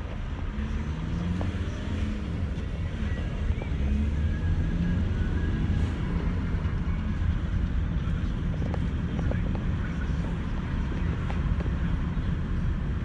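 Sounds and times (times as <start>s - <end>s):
road and engine rumble in van: 0.0s - 13.0s.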